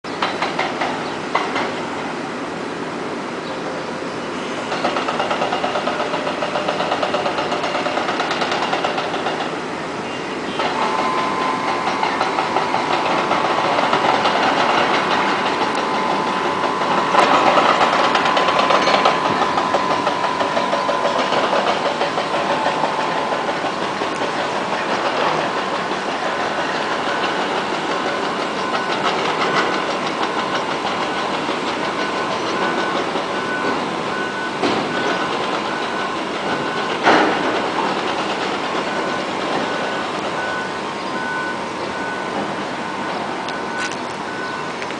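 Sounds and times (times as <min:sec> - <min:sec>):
construction machinery engines: 0:00.0 - 0:44.9
steady whine: 0:04.0 - 0:44.9.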